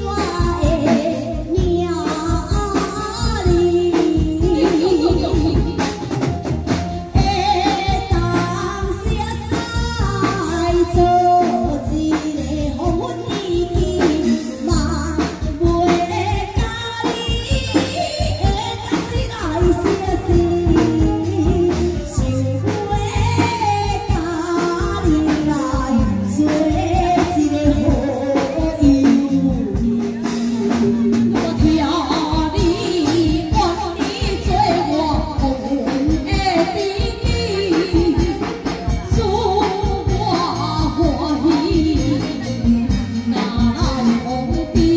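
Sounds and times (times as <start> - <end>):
instrumental accompaniment with drums: 0.0 - 44.9.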